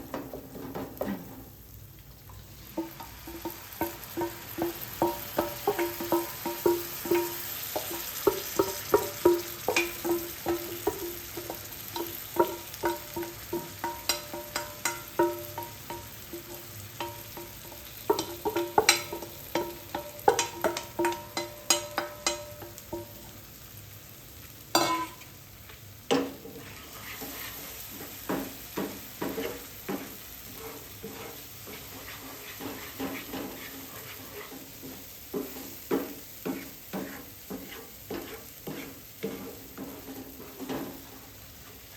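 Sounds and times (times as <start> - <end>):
food sizzling: 0.0 - 41.9
spatula clacking in metal pan: 2.7 - 23.4, 24.7 - 25.3, 26.1 - 41.2.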